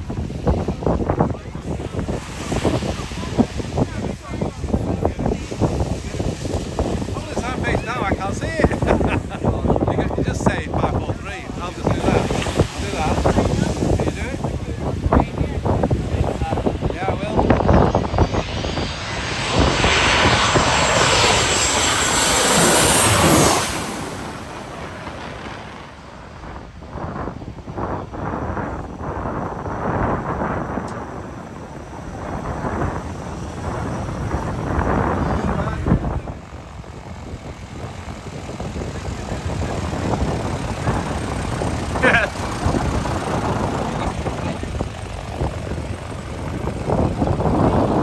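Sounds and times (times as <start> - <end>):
airplane passing overhead: 0.0 - 48.0
jet engines running: 0.0 - 48.0.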